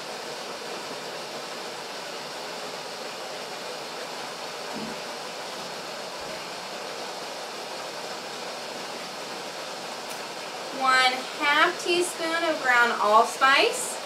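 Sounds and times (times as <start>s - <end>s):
steady fan-like hiss: 0.0s - 14.0s.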